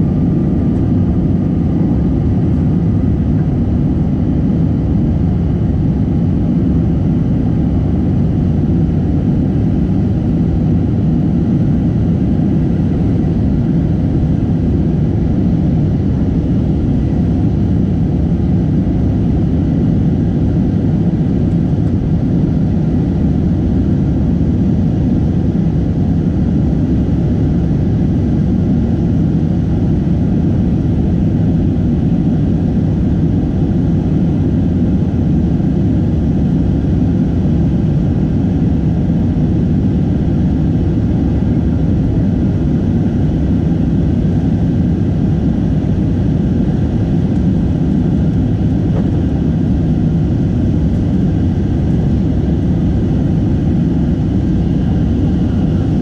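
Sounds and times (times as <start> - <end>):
jet engine and airflow roar: 0.0 - 56.0.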